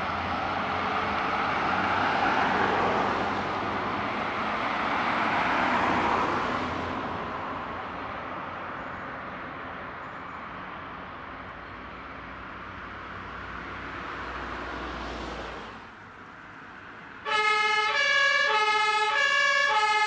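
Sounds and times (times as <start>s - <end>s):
fire engine driving past: 0.0s - 20.0s.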